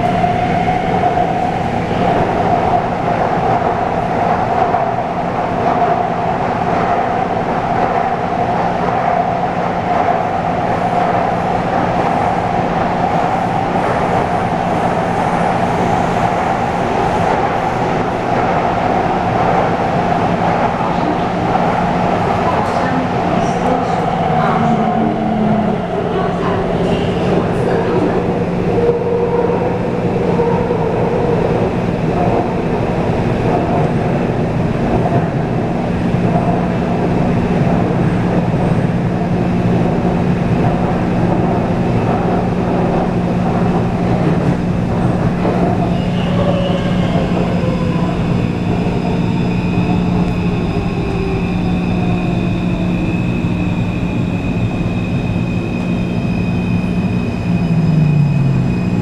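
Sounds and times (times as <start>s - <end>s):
train wheel and running noise: 0.0s - 59.0s.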